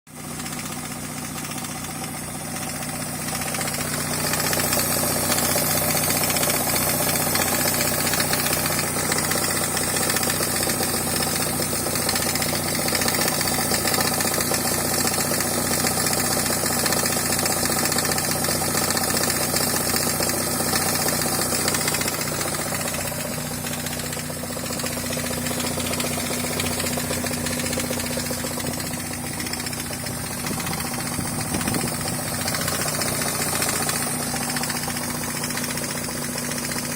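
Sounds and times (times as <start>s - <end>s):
car engine idling: 0.1s - 36.9s
resonating engine noise: 0.4s - 36.9s.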